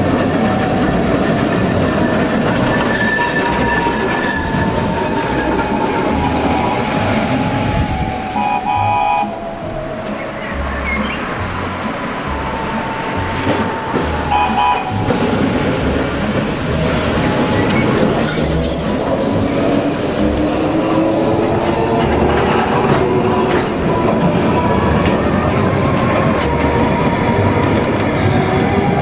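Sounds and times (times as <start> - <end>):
rail wheels squealing and clacking: 0.0 - 29.0.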